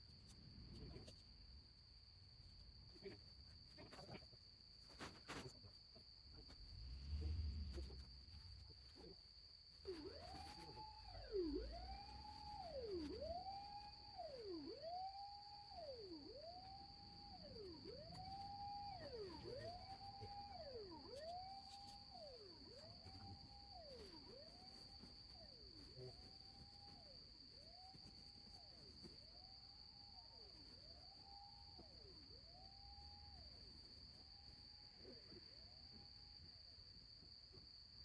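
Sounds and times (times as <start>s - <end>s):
steady high-pitched whine: 4.9s - 36.1s.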